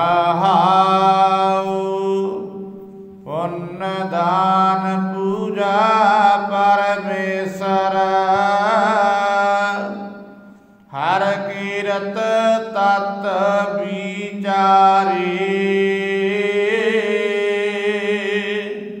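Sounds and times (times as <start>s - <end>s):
person singing devotional melody: 0.0s - 19.0s.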